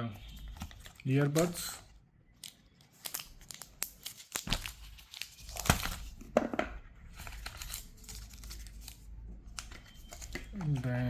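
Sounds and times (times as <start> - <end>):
packaging crinkling and rustling: 0.4 - 6.4, 7.0 - 11.0.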